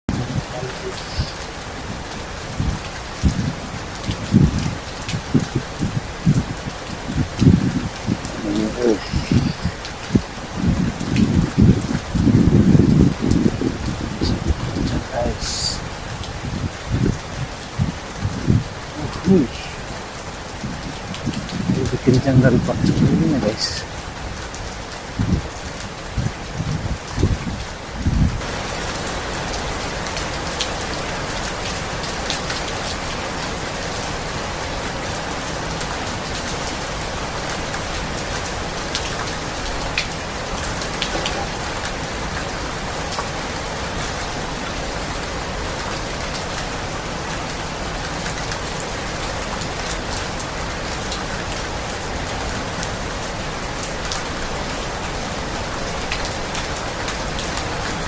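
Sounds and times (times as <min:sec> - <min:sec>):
strong wind and rain: 0:00.1 - 0:58.0.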